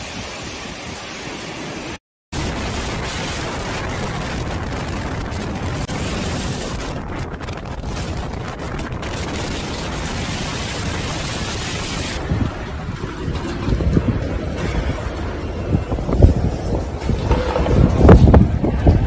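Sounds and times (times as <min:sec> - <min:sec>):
strong wind blowing on microphone: 0:00.0 - 0:19.0.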